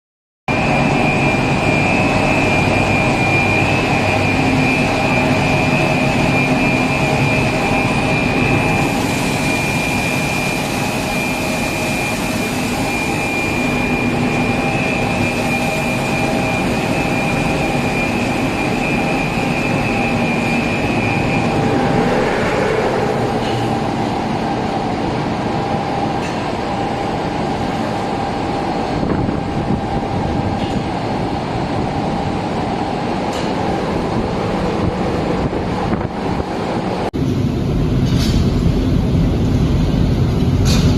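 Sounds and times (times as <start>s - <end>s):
loud mechanical hum: 0.5s - 40.9s
machine whining tones: 0.5s - 40.9s.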